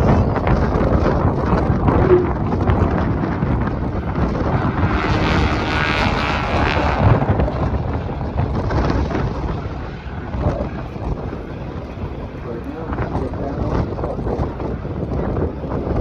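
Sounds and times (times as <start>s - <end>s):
aircraft flying past: 0.0s - 15.6s
wind buffeting microphone: 0.0s - 16.0s.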